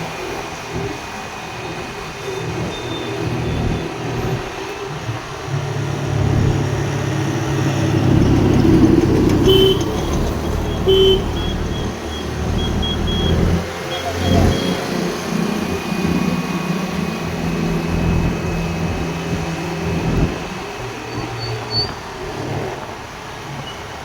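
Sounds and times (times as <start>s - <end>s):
engine hum: 0.0s - 23.7s
road traffic noise: 0.0s - 24.0s.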